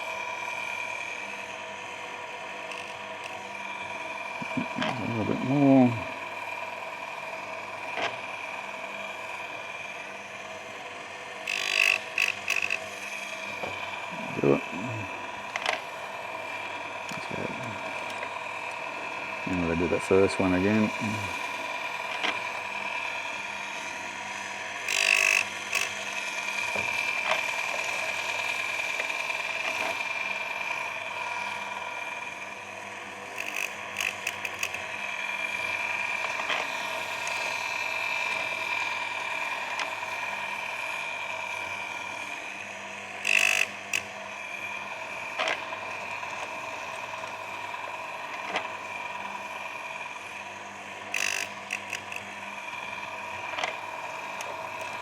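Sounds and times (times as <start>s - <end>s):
sharpener motor whining: 0.0s - 55.0s
grinding wheel on chain: 2.6s - 9.8s, 11.4s - 55.0s.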